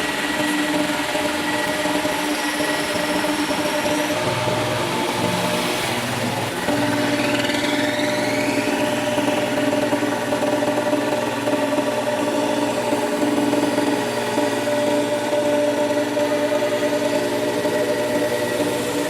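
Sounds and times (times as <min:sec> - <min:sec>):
machine tool humming: 0:00.0 - 0:19.0.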